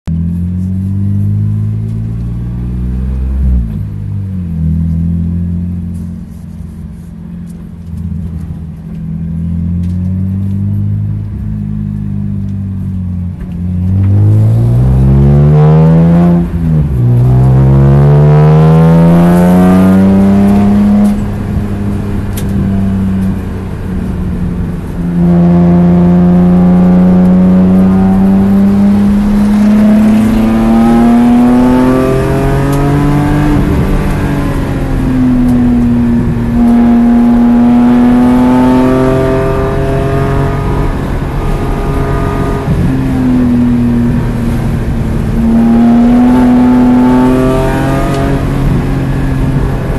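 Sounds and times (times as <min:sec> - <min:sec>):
car engine revving through gears: 0:00.1 - 0:06.4, 0:07.4 - 0:49.9.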